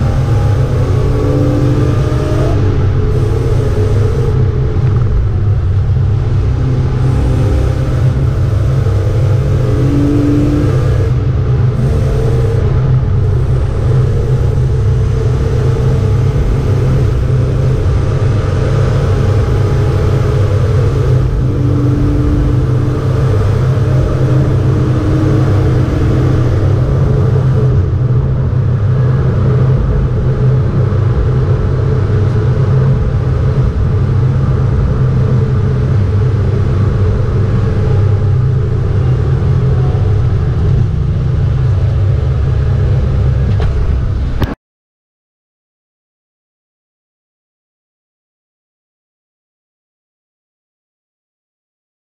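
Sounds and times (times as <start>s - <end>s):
car engine droning: 0.0s - 44.6s
road and wind noise: 0.0s - 44.6s.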